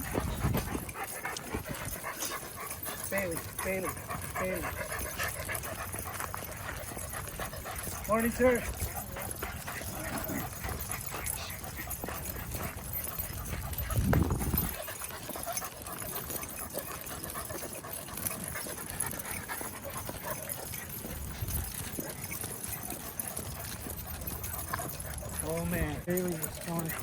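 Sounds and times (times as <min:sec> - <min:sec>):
footsteps walking: 0:00.0 - 0:25.4
faint dog sounds: 0:00.0 - 0:27.0.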